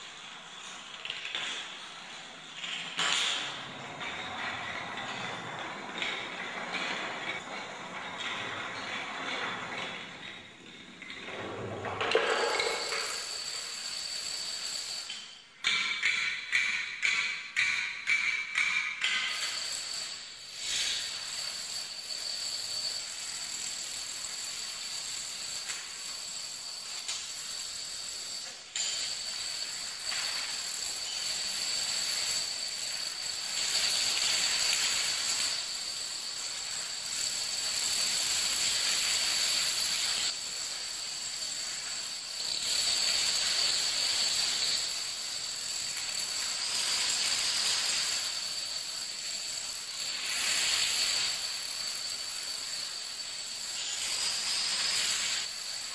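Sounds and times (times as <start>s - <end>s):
dominoes clattering on wooden floor: 0.1s - 55.9s.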